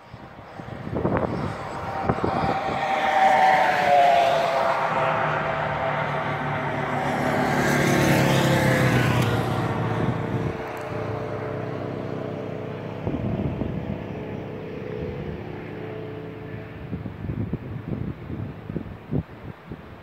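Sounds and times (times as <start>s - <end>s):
vehicle engine passing by: 0.1s - 18.8s.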